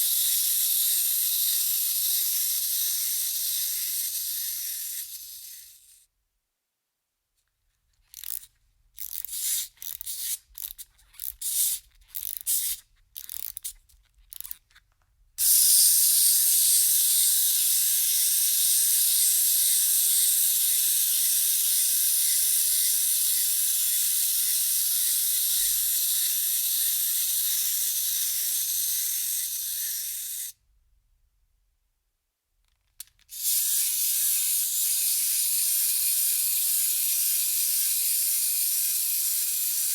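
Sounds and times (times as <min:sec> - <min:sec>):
spring motor whirring: 0:00.0 - 0:06.0, 0:08.1 - 0:14.6, 0:15.4 - 0:30.5, 0:33.0 - 0:39.9
toy clockwork ratcheting: 0:00.0 - 0:06.0, 0:08.0 - 0:14.8, 0:15.4 - 0:30.6, 0:33.0 - 0:39.9.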